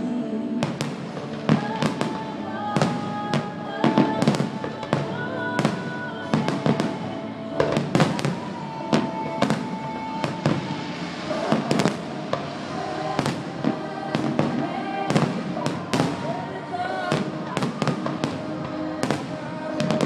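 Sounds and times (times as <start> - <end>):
fireworks exploding: 0.6 - 20.0.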